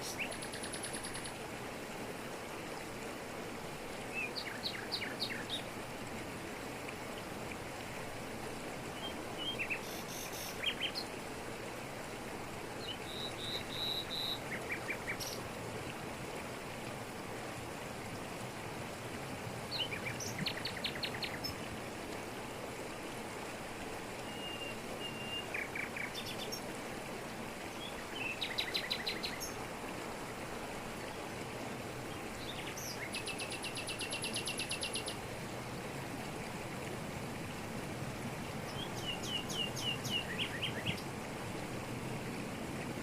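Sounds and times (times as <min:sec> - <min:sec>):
waterfall pouring over rocks: 0:00.0 - 0:43.0.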